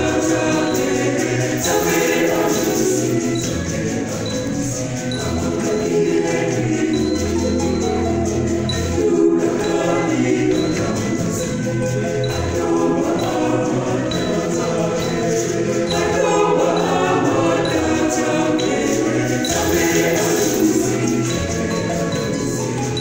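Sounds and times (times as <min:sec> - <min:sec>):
mixed choir singing a hymn: 0:00.0 - 0:23.0.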